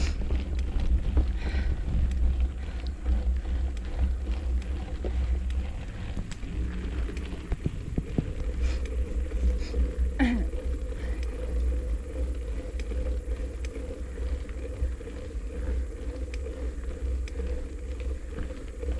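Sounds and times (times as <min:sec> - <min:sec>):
bicycle rattles: 0:00.0 - 0:18.9
steady hum: 0:00.0 - 0:18.9
wind rumbling on microphone: 0:00.0 - 0:18.9.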